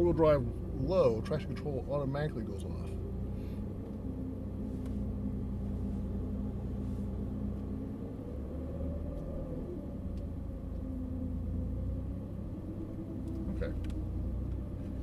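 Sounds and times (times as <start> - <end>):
engine low rumble: 0.0 - 15.0
higher engine tone: 0.0 - 15.0.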